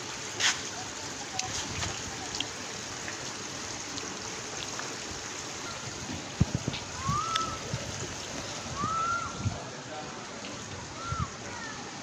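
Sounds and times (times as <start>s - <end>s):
gentle water: 0.0s - 12.0s
wind: 0.0s - 12.0s.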